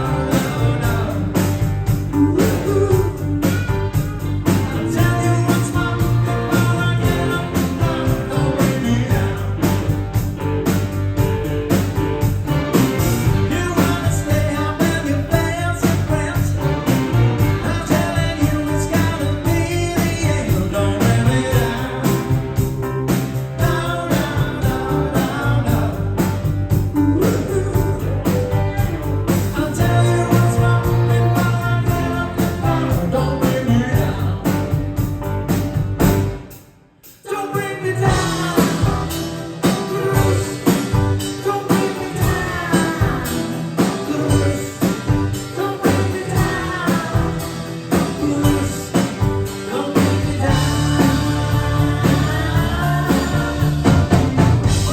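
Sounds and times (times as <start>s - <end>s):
person singing: 0.0s - 10.0s, 13.4s - 34.8s, 37.3s - 54.9s
steady drum beat: 0.0s - 36.7s, 38.0s - 54.9s
guitar: 0.0s - 54.9s.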